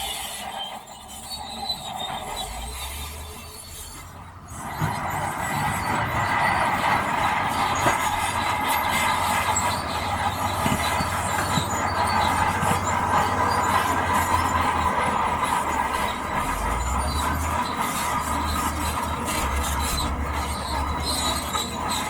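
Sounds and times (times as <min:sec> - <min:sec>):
bulldozer diesel engine: 0:00.0 - 0:22.0
steel tracks squealing and clattering: 0:00.0 - 0:22.0.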